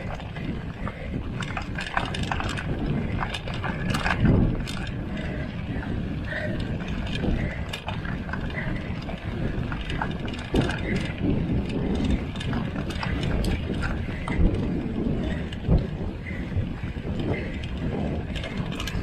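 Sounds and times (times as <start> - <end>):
bike chain rattling: 0.0 - 19.0
bike rumbling over rough ground: 0.0 - 19.0
freewheel hub ticking: 0.0 - 19.0.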